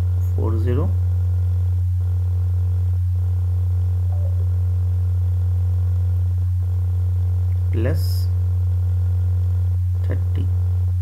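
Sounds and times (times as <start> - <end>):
electrical interference hum: 0.0 - 11.0.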